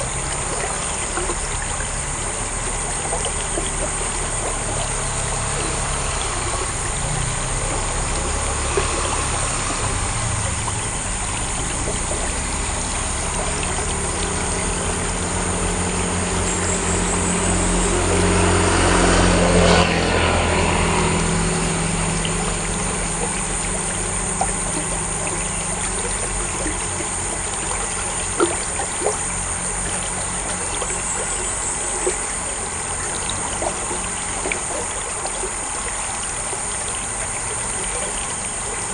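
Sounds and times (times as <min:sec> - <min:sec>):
motorbike passing: 0:00.0 - 0:38.9
water trickling from culvert: 0:00.0 - 0:38.9.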